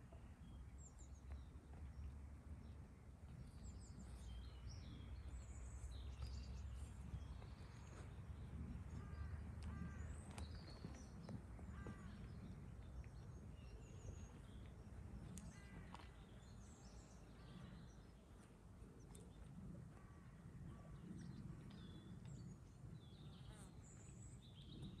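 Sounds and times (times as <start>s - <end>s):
low rumble of wind: 0.0s - 25.0s.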